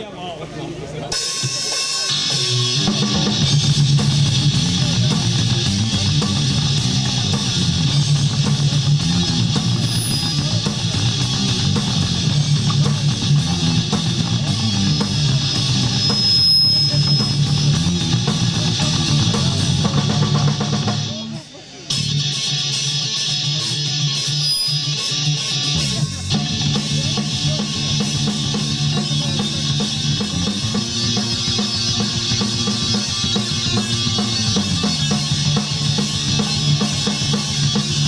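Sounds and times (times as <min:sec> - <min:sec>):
electric guitar: 0:01.1 - 0:38.0
drum kit beat: 0:01.2 - 0:38.0.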